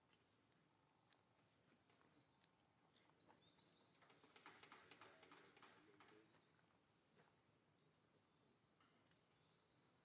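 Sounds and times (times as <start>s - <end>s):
faint clicking and rustling: 0.0s - 8.1s
faint bird chirps: 1.8s - 10.0s.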